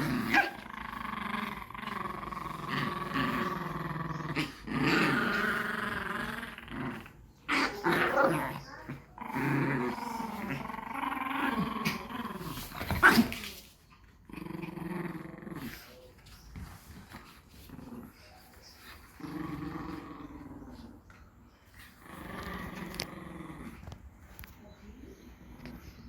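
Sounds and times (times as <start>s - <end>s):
dog growling: 0.0s - 13.5s, 14.2s - 16.1s, 17.0s - 24.0s.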